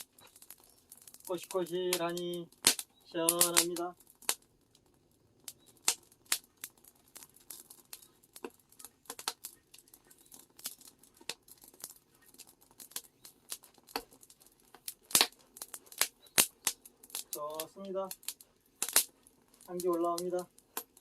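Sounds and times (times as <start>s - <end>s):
tea leaves crackling in a cauldron: 0.0s - 21.0s.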